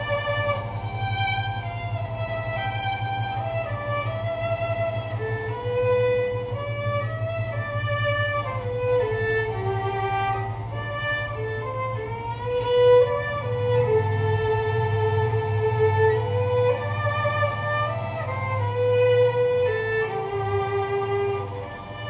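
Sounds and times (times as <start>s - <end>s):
solo violin melody: 0.0s - 22.0s.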